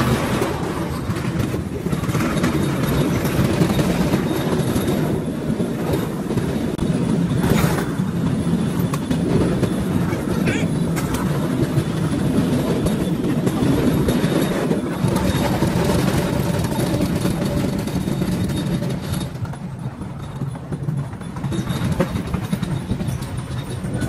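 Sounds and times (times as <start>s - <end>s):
train cart rattling on rails: 0.0s - 24.0s.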